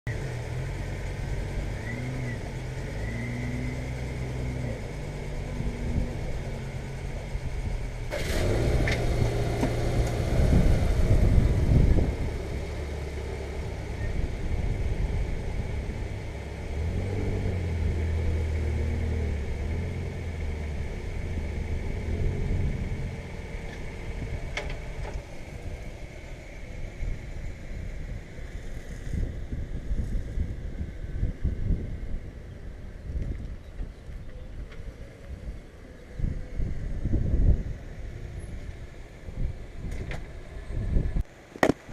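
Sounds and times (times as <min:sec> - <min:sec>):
car engine running while driving: 0:00.1 - 0:41.9.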